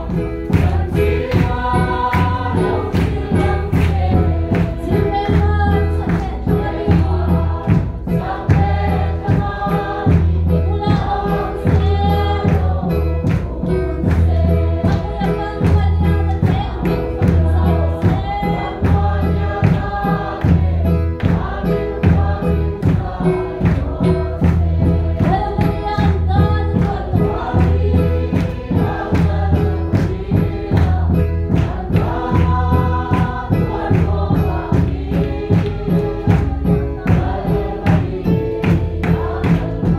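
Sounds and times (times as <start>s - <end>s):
barrel drum beat: 0.0s - 39.9s
congregation singing a hymn: 0.0s - 39.9s.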